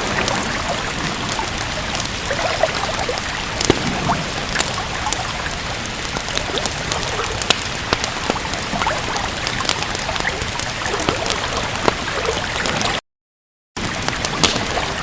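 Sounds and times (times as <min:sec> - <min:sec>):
steady rain: 0:00.0 - 0:13.0, 0:13.8 - 0:15.0
wood fire crackling: 0:00.0 - 0:13.0, 0:13.8 - 0:15.0.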